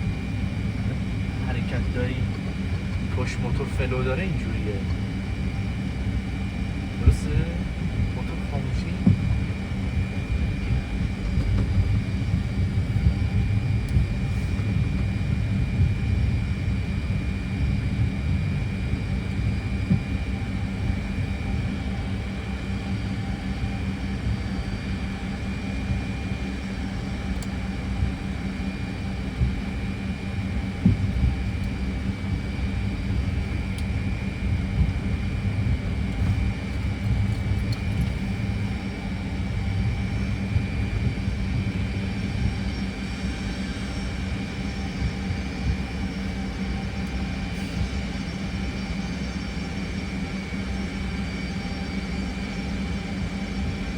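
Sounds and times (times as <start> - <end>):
jet engines rumbling with high whine: 0.0 - 53.9.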